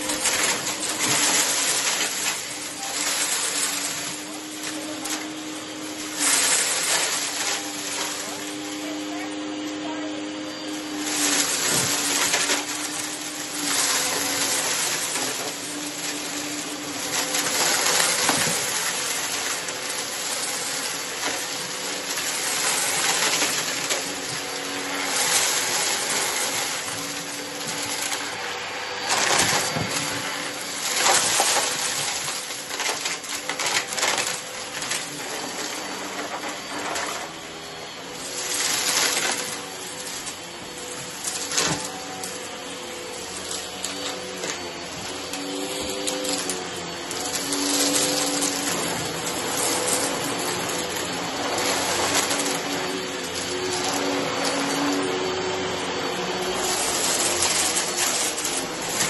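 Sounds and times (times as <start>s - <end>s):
debris crackling and rattling: 0.0s - 9.7s, 10.7s - 59.0s
upright vacuum cleaner running: 0.0s - 59.0s.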